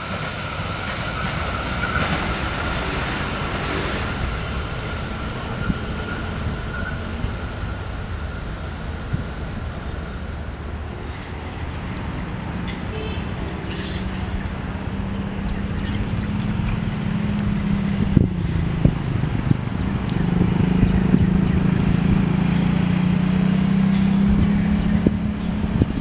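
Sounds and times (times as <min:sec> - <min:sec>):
locomotive engine drone: 0:00.0 - 0:26.0.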